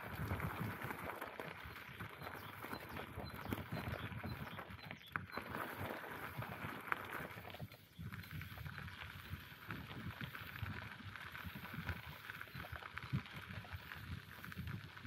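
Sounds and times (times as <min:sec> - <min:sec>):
bicycle tyres crunching on ground: 0:00.0 - 0:15.0.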